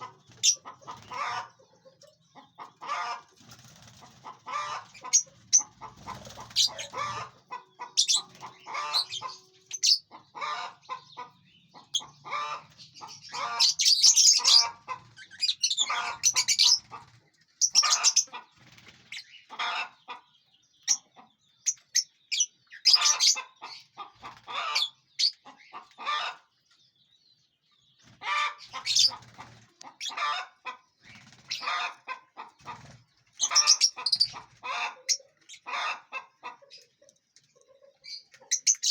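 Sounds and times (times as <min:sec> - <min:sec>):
flock of lovebirds calling: 0:00.0 - 0:20.2, 0:20.8 - 0:26.5, 0:28.1 - 0:36.9, 0:37.9 - 0:38.9.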